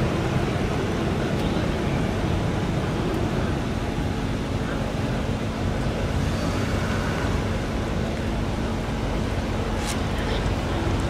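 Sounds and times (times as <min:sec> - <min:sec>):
truck engines low rumble: 0:00.0 - 0:11.0.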